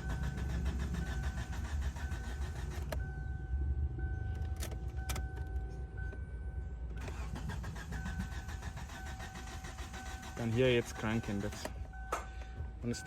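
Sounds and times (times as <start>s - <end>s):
car engine cranking: 0.0s - 3.4s, 4.0s - 6.2s, 6.9s - 13.0s.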